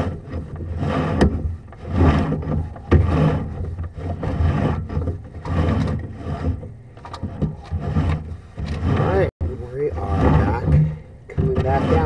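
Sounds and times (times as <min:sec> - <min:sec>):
cable scraping through pipe: 0:00.0 - 0:12.0.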